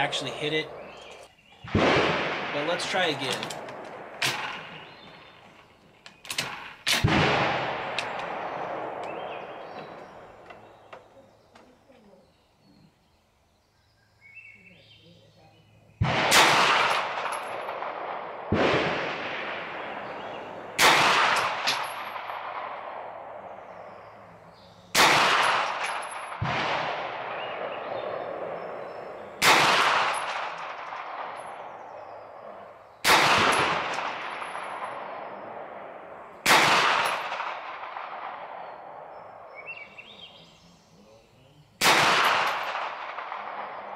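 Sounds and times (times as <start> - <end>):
gunshots with echoing tail: 0.0 - 5.7, 6.3 - 10.8, 16.0 - 40.4, 41.8 - 43.9.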